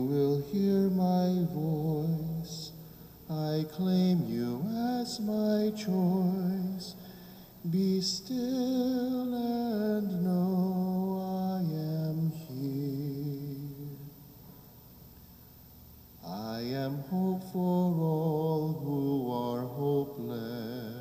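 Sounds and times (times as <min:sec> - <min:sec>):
person singing slowly: 0:00.0 - 0:07.0, 0:07.6 - 0:14.1, 0:16.2 - 0:21.0.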